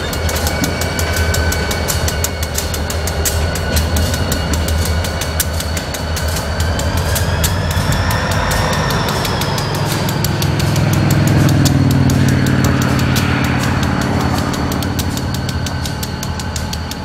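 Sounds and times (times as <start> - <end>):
diesel locomotive engines droning: 0.0 - 17.0
thin high squeal: 0.0 - 17.0
wheel clicks: 0.0 - 17.0.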